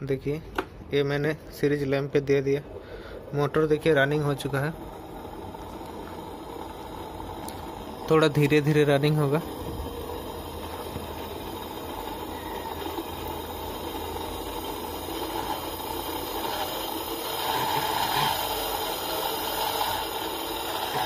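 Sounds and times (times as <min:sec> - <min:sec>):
electric motor humming: 0:03.8 - 0:21.0.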